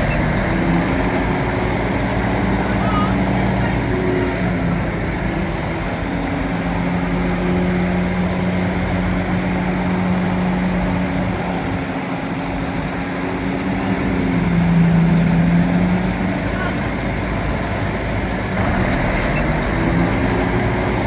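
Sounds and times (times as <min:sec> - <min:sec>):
bulldozer diesel engine running: 0:00.0 - 0:11.8, 0:12.8 - 0:21.0.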